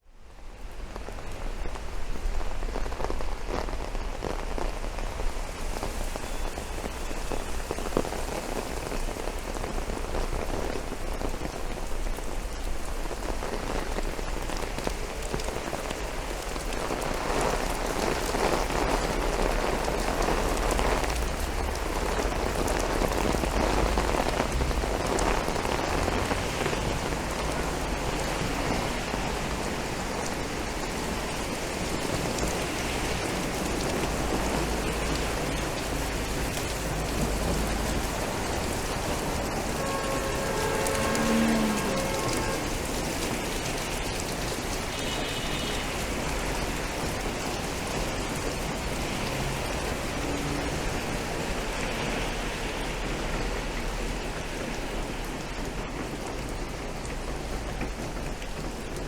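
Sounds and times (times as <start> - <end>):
rain pattering: 0.0 - 59.0
city traffic rumble: 0.1 - 59.0.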